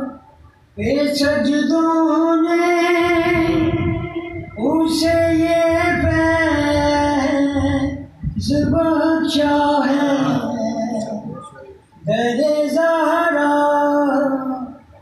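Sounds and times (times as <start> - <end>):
man singing: 0.8 - 14.8.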